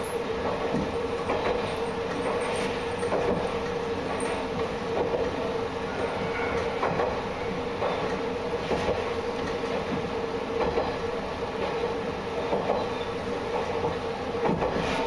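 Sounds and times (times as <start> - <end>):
railcar running drone: 0.0 - 15.0.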